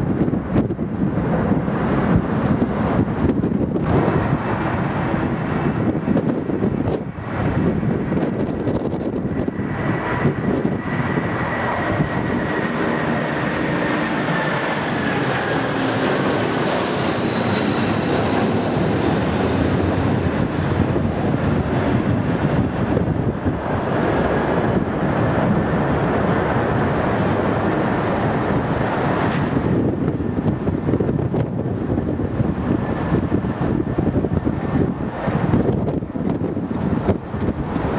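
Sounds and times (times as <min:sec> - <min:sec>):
jet airliner passing: 0:00.0 - 0:37.9
wind buffeting microphone: 0:00.0 - 0:37.9.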